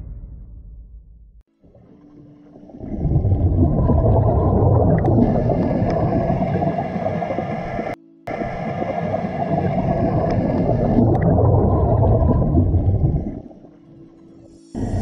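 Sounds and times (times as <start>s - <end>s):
underwater bubbles gurgling: 1.6s - 15.0s.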